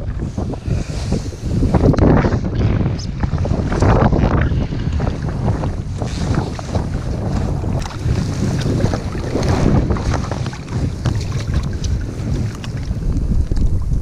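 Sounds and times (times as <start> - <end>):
water sloshing and splashing: 0.0 - 14.0
wind rumbling on microphone: 0.0 - 14.0.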